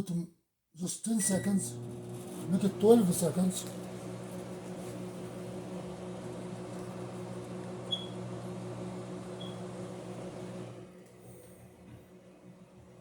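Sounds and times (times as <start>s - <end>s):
microwave oven humming: 1.2s - 13.0s.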